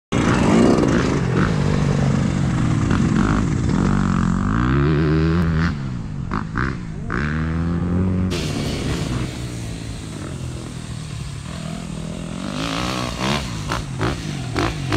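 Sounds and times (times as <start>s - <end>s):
motocross bike engine revving: 0.1s - 14.9s.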